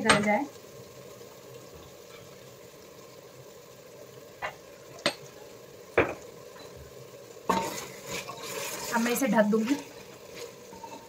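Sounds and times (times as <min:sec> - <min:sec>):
chicken and tomatoes sizzling: 0:00.0 - 0:11.0.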